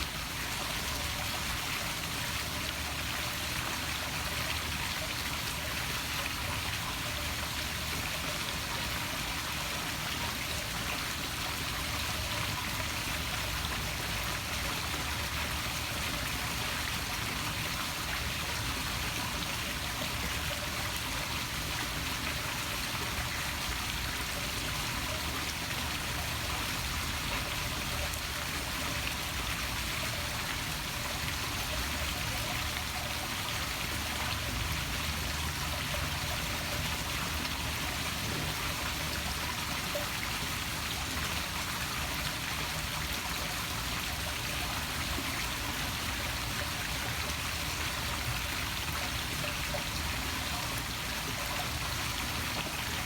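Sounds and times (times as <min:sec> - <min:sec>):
waterfall splashing into pool: 0:00.0 - 0:53.0.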